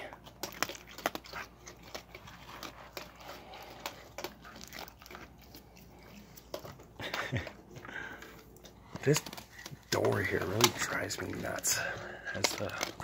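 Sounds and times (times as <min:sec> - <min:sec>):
raccoon wet chewing: 0:00.0 - 0:13.0.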